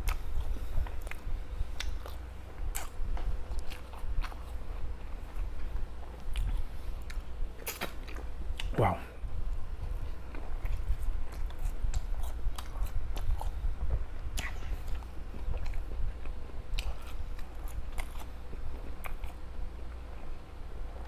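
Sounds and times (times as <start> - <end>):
chewing with wet mouth smacks: 0.0 - 8.8, 9.8 - 20.4.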